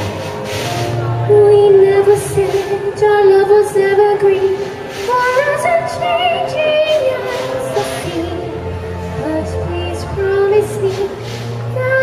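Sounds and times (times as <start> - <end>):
musical accompaniment: 0.0 - 12.0
woman singing: 1.3 - 12.0.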